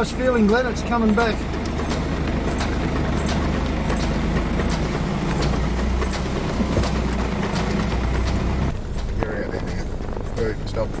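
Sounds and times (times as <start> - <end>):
winch motor drone: 0.0 - 11.0
scattered clicks: 0.4 - 11.0.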